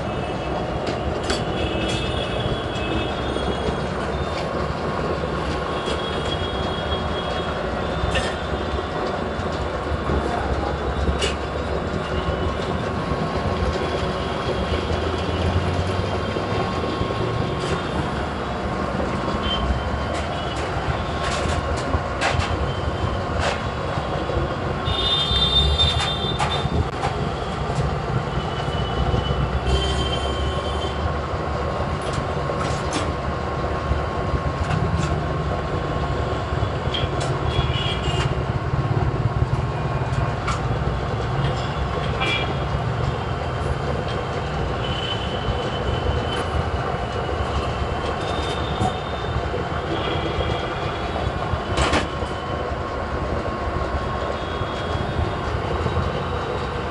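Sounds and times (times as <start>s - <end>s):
heavy machinery running: 0.0s - 56.9s.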